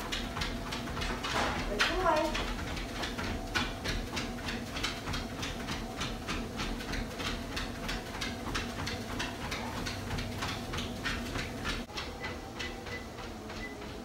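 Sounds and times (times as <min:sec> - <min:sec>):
dog paws padding on treadmill: 0:00.0 - 0:14.0
treadmill motor hum: 0:00.0 - 0:14.0.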